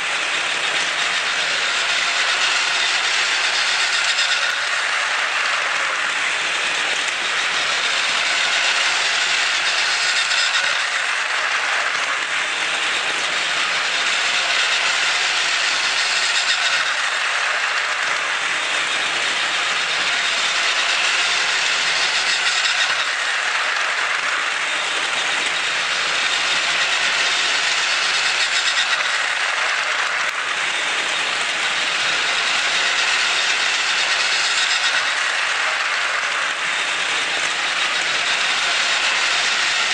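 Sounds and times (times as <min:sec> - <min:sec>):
toy train whirring and rattling: 0:00.0 - 0:39.9.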